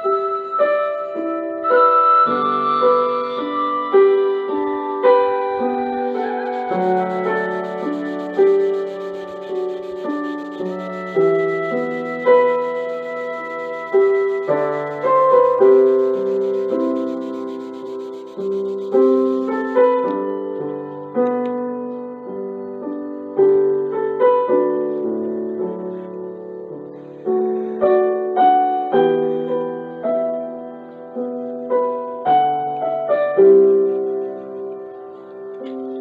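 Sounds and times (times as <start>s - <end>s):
gentle piano music: 0.0s - 36.0s.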